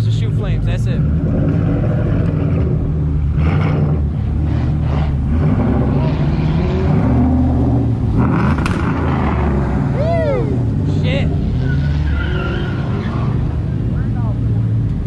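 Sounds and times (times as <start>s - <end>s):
car engine running at low revs: 0.0s - 12.2s, 12.8s - 15.0s.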